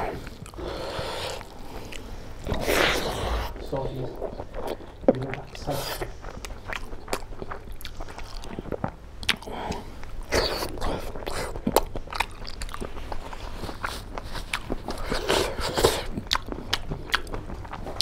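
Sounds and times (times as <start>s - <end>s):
man chewing food: 0.0s - 18.0s.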